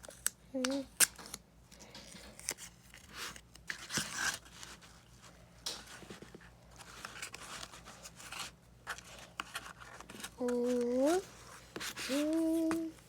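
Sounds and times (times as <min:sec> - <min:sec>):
cardboard and tape rustling: 0:00.0 - 0:13.0.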